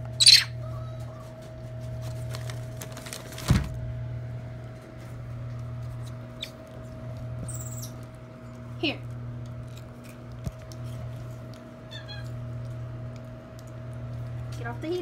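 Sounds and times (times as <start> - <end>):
space heater humming: 0.0 - 15.0.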